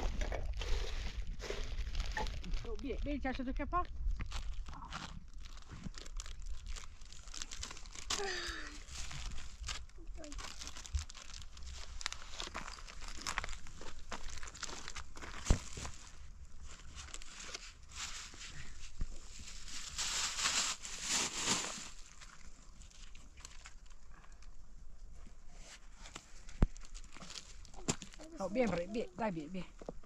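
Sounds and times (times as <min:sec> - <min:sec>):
rustling and crinkling handling: 0:00.0 - 0:30.0.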